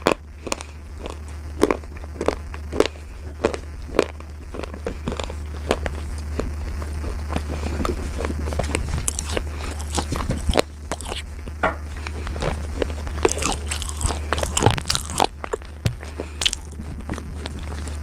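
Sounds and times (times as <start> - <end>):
slate crunching between teeth: 0.0 - 18.0
steady low hum: 0.0 - 18.0.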